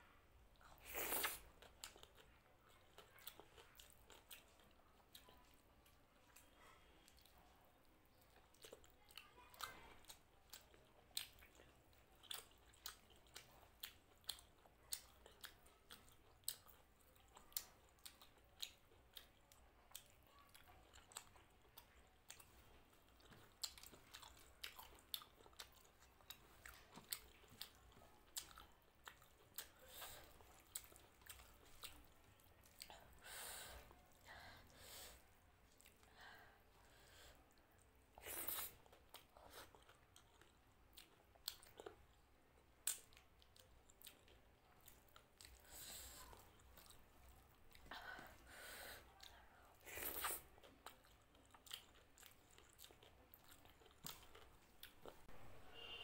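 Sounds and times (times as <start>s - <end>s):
faint wet chewing: 0.5s - 56.0s.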